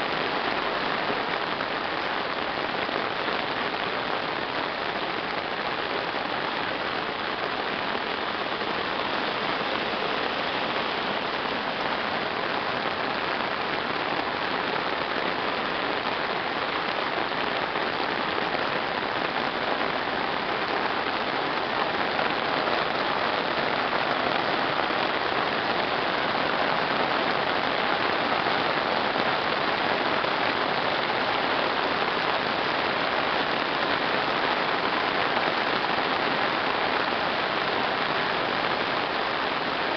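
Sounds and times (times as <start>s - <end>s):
heavy rain on asphalt: 0.0s - 39.9s.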